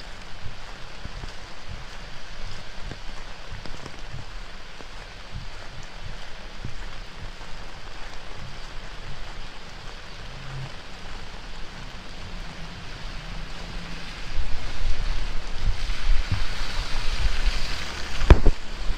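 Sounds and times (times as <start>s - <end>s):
heavy rain falling: 0.0s - 18.9s
wind buffeting microphone: 0.0s - 18.9s.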